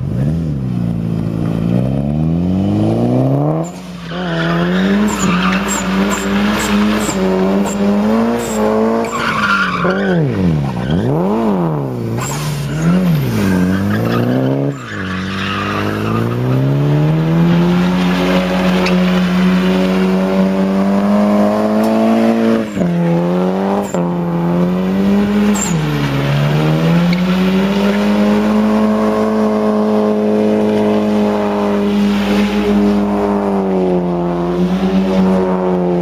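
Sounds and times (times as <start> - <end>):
car engine revving high: 1.2 - 36.0.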